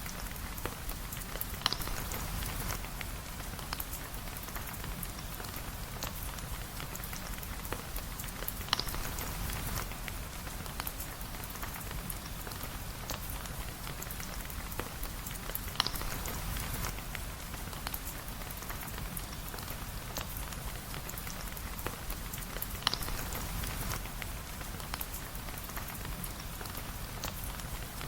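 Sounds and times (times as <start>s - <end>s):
raindrop ticks: 0.0s - 28.0s
steady rain hissing: 0.0s - 28.0s.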